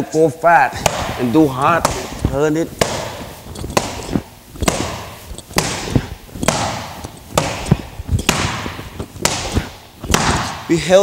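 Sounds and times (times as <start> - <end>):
dull thuds: 0.8 - 10.8
steel bar smacking heavy bag: 0.8 - 10.8.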